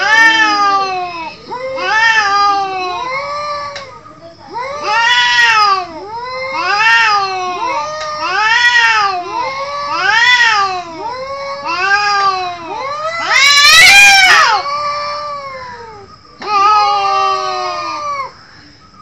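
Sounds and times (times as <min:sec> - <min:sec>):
cats yowling: 0:00.0 - 0:18.4.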